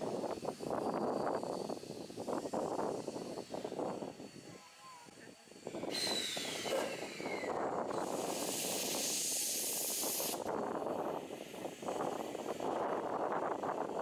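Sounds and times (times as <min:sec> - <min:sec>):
steam hissing: 0:00.0 - 0:04.9, 0:05.5 - 0:14.0.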